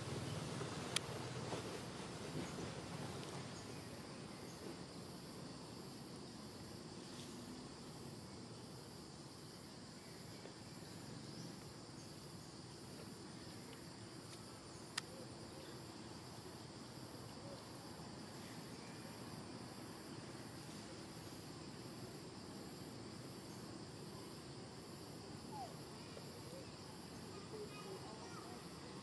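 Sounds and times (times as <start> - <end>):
insect chirping: 0.0 - 29.0
steady insect hum: 0.0 - 29.0.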